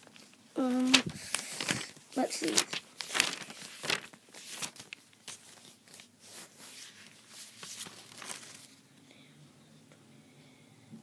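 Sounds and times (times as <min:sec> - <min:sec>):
paper rustling and crinkling: 0:00.0 - 0:08.8.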